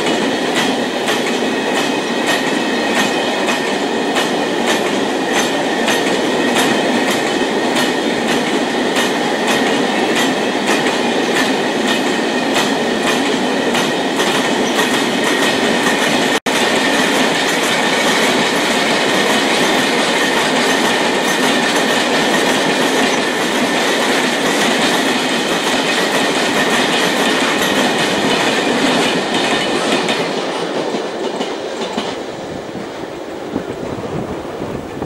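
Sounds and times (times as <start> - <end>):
train wheels clattering over rails: 0.0 - 35.0.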